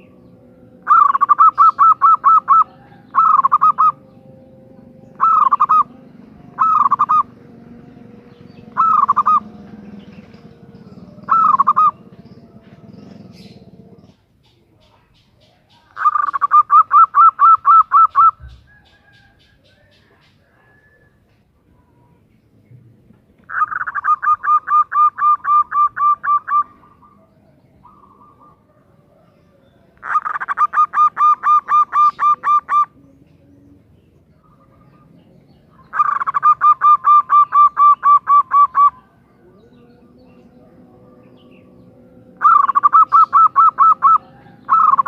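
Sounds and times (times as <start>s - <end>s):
dove cooing calls: 0.0s - 45.0s.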